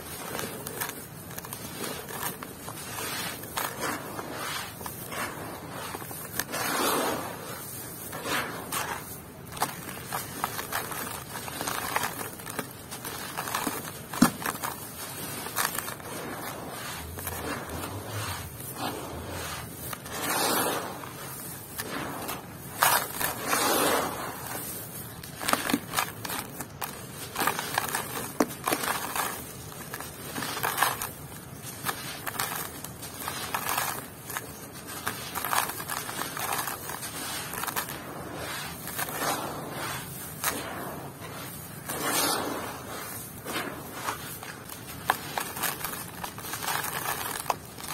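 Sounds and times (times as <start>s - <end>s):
grains pouring down: 0.0s - 47.9s
hands scraping through dry grit: 0.0s - 47.9s.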